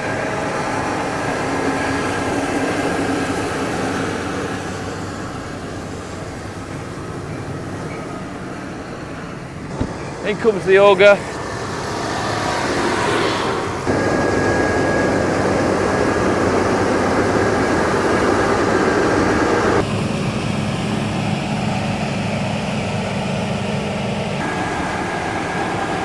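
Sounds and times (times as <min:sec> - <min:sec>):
combine harvester engine drone: 0:00.0 - 0:26.0.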